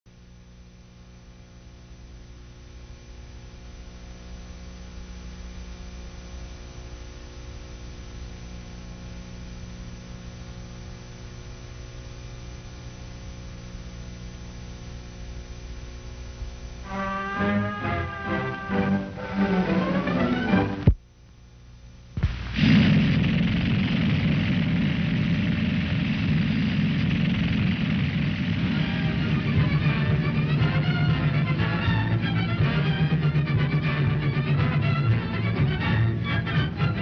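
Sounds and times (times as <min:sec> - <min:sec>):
electrical mains hum with hiss: 0:00.1 - 0:37.0.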